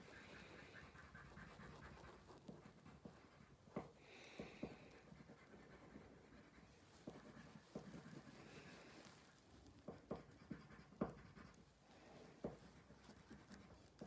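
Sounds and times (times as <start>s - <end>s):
pencil scratching on paper: 0.0s - 14.0s.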